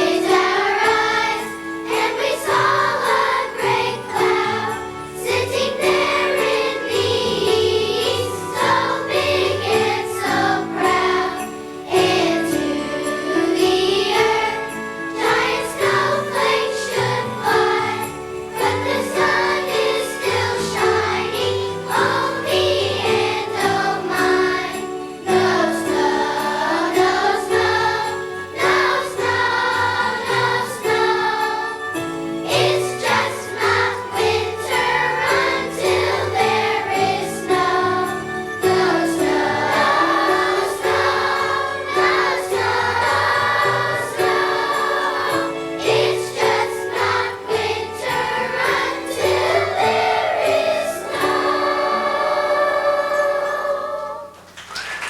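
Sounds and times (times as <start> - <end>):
children's choir singing: 0.0 - 55.0
musical accompaniment: 0.0 - 55.0.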